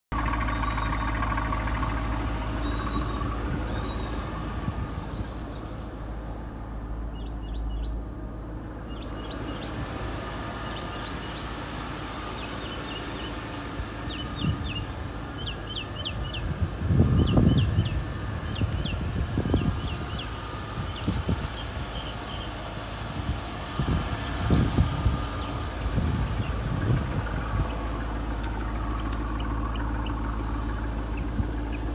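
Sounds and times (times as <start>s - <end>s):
low vehicle rumble: 0.1s - 31.9s
small birds chirping: 0.4s - 1.2s, 2.5s - 6.0s, 7.1s - 8.0s, 8.8s - 9.8s, 10.6s - 11.6s, 12.2s - 31.9s.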